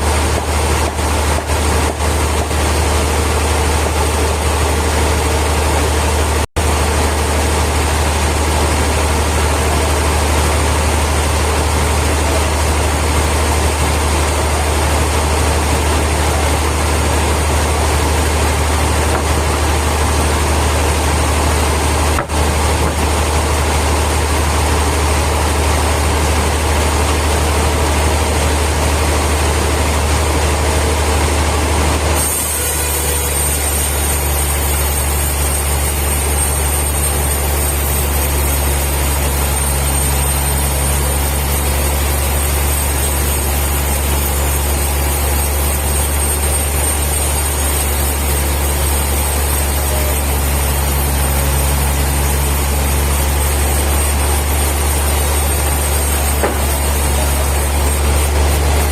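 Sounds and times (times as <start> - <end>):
heavy sawmill machinery humming: 0.0 - 58.9.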